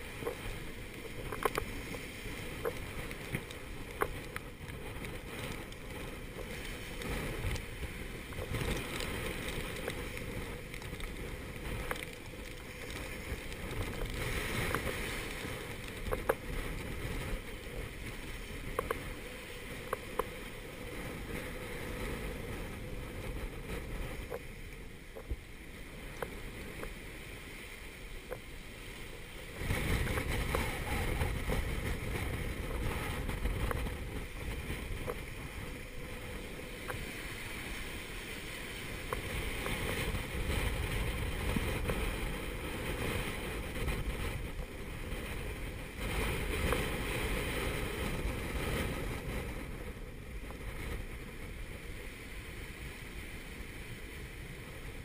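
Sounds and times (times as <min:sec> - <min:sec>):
gale wind: 0:00.0 - 0:55.0
wind buffeting microphone: 0:00.0 - 0:55.0.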